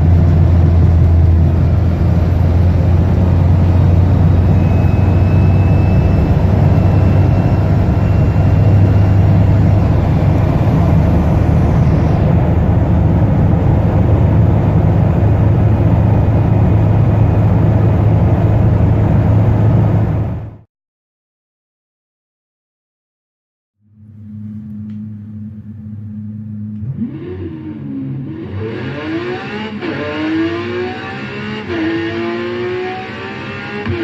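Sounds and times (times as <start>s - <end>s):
car engine running loud: 0.0s - 20.6s, 23.9s - 34.0s.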